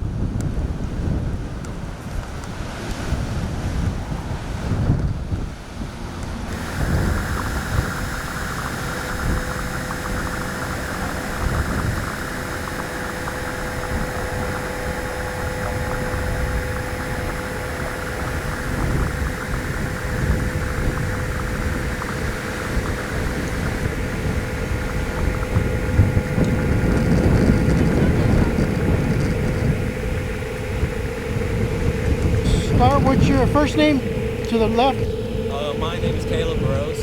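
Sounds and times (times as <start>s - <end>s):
steady hum: 6.4s - 37.0s
wind buffeting microphone: 6.5s - 37.0s.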